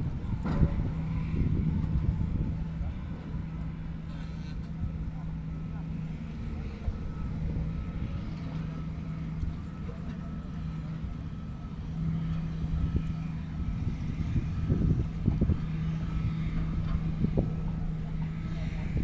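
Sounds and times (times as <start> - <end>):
low engine hum: 0.0 - 19.0
wind buffeting microphone: 0.0 - 19.0.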